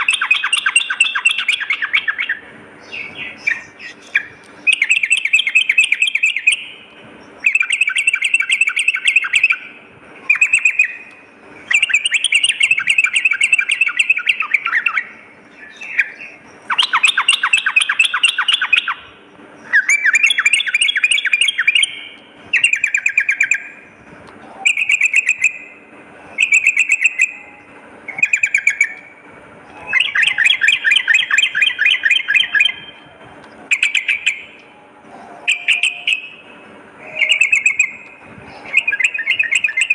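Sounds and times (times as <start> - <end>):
bird singing bubbly phrases: 0.0 - 39.9.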